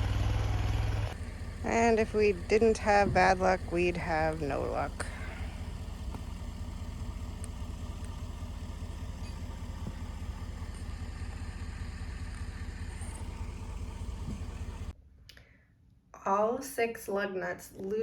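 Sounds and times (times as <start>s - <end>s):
skid loader engine idling: 0.0s - 15.0s.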